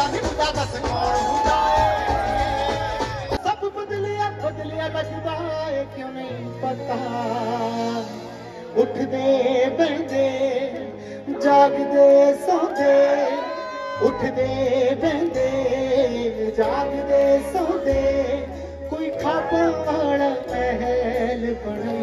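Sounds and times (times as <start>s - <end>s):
live band playing pop music: 0.0s - 22.0s
person singing: 0.0s - 22.0s.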